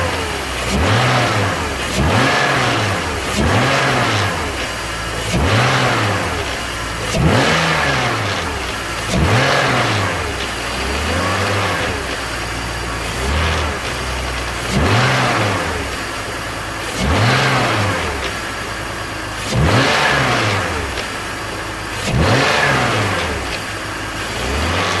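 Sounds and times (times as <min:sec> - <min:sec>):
engine rattle: 0:00.0 - 0:25.0
engine revving in blips: 0:00.0 - 0:25.0.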